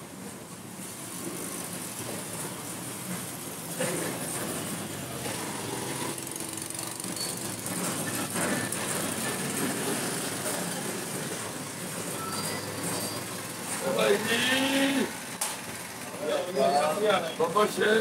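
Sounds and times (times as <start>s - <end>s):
small engines running: 0.0s - 18.0s
street traffic: 0.0s - 18.0s.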